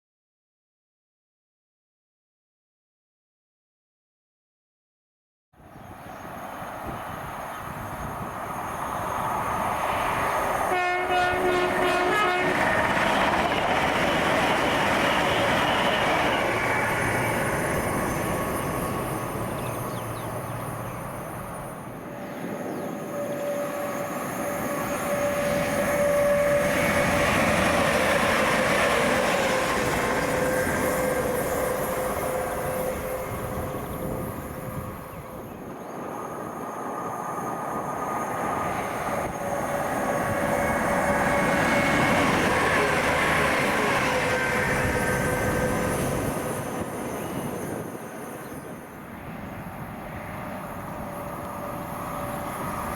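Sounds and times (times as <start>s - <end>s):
train rumble and wheel noise: 5.6s - 52.9s.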